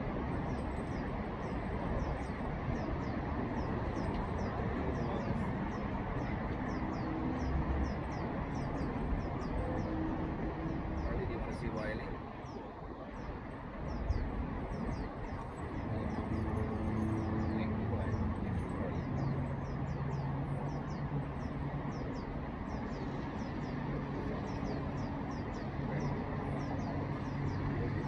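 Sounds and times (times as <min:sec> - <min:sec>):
small birds chirping: 0:00.5 - 0:28.0.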